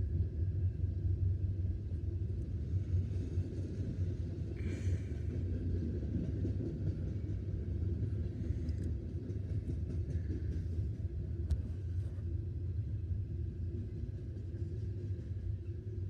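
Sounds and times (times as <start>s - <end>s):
freight train rolling past: 0.2s - 16.0s.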